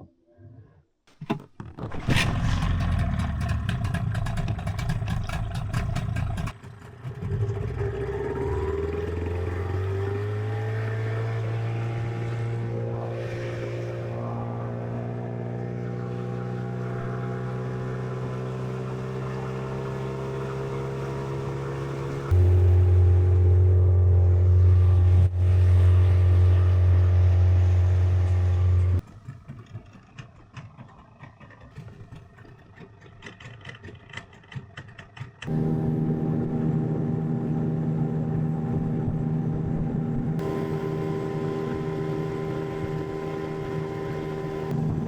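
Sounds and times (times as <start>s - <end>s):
boat motor running: 1.2s - 45.0s.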